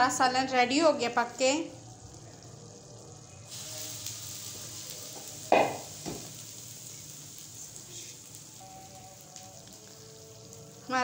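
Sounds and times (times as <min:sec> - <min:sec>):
curry bubbling and sizzling: 0:00.0 - 0:11.0.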